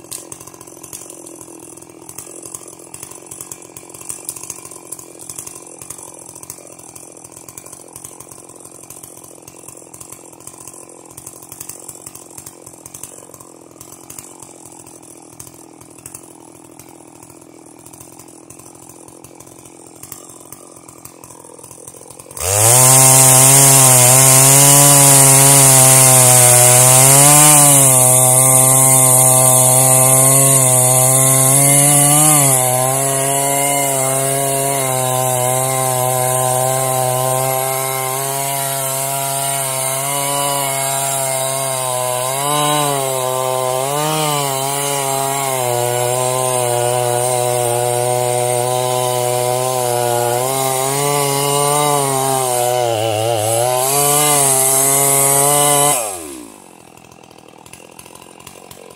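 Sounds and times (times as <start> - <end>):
chainsaw at full throttle cutting log: 0.0 - 58.9.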